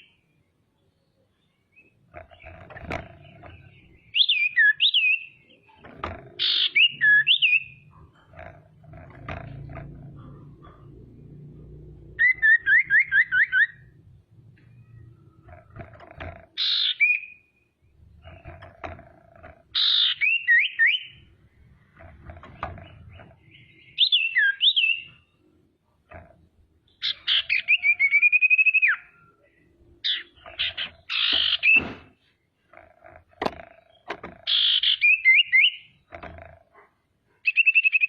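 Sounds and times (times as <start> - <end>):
bird harsh rasping notes: 2.0 - 14.0, 14.7 - 25.5, 26.1 - 36.8.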